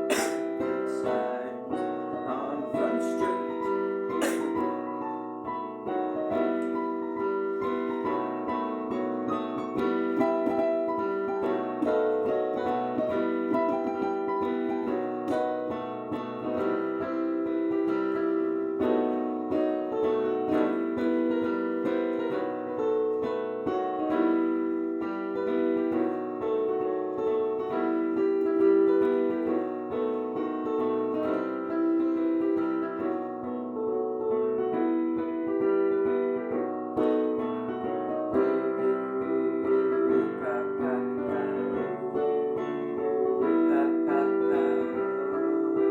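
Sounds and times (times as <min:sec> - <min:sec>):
piano music: 0:00.0 - 0:45.9.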